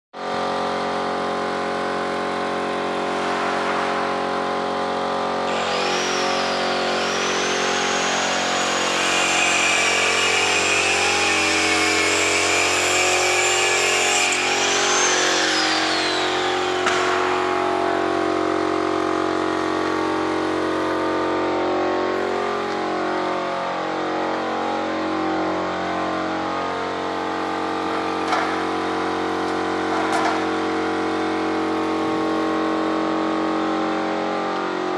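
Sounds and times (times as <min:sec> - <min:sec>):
air compressor running: 0:00.2 - 0:34.9.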